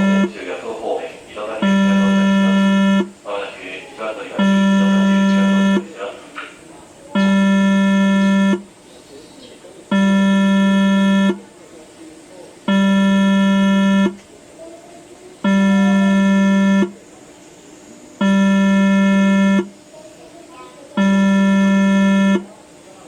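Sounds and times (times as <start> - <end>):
low warning buzzer: 0.0 - 6.2, 7.1 - 8.8, 9.9 - 11.8, 12.6 - 14.2, 15.3 - 22.9.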